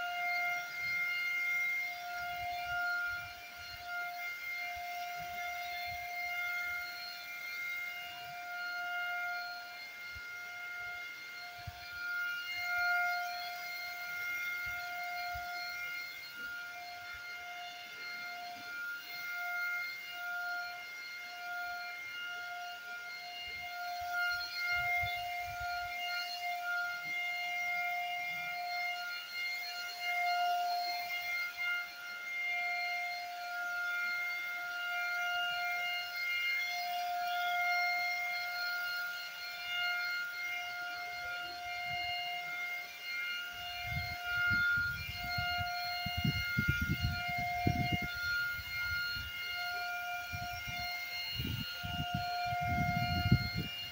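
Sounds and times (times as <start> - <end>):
paint spray gun motor whine: 0.0 - 53.9.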